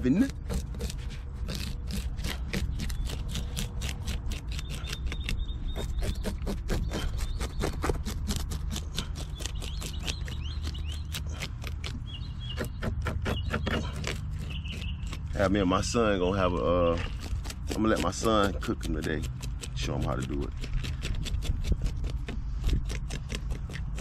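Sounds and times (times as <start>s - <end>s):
knife scraping fish scales: 0.0s - 15.6s, 16.6s - 24.0s.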